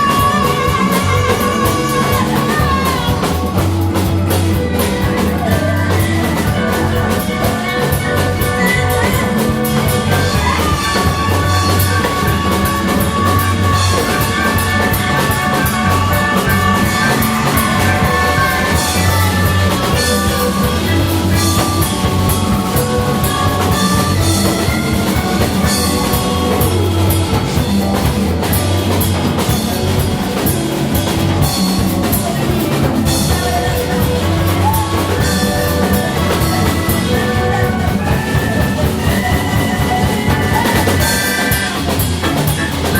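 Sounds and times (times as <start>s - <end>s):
rock band music: 0.0s - 42.9s
rock drum beat: 0.0s - 42.9s.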